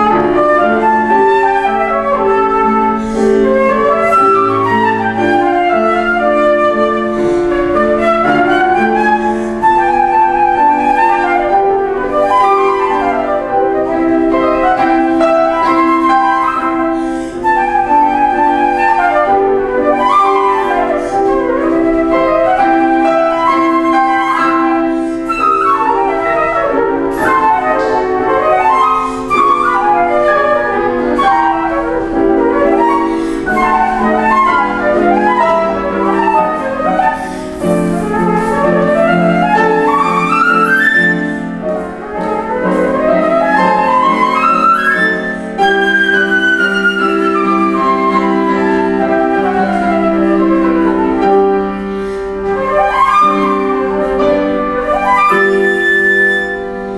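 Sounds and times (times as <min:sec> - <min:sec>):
flute melody: 0:00.0 - 0:56.9
piano accompaniment: 0:00.0 - 0:56.9.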